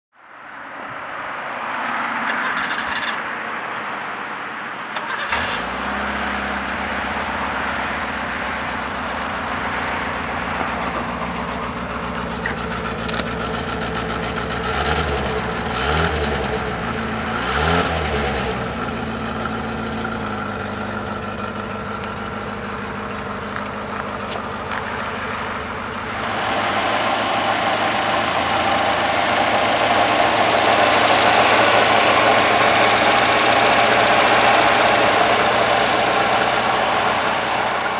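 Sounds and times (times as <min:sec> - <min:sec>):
car engine cranking and idling: 0:02.2 - 0:03.3, 0:04.9 - 0:37.9
engine revving: 0:05.0 - 0:37.9.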